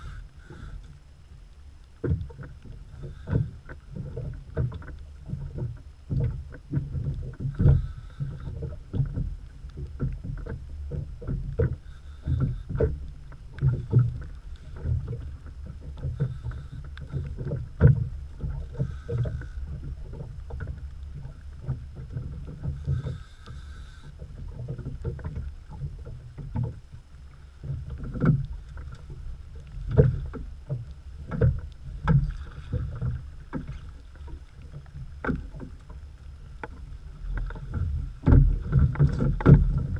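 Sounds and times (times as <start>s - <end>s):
steady low rumble: 0.0s - 39.9s
water slapping against boat hull: 1.9s - 39.9s.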